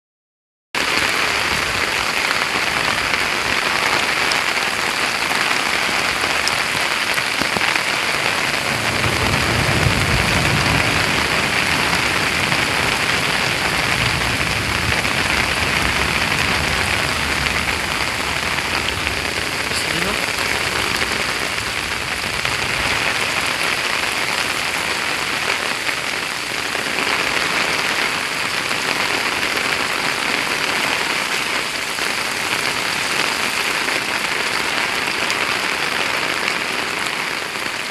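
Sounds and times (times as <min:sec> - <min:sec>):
heavy rain falling: 0:00.8 - 0:37.9.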